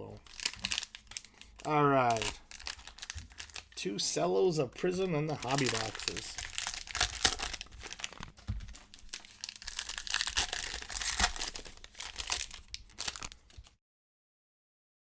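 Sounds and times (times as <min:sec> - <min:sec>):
cellophane crinkling and tearing: 0:00.0 - 0:13.8.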